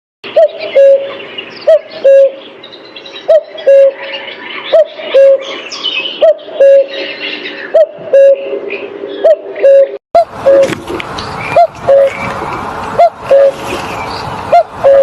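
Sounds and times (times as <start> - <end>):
small birds chirping: 0.3 - 9.8, 10.6 - 15.0
cuckoo calling: 0.3 - 12.3, 13.0 - 13.7, 14.5 - 15.0.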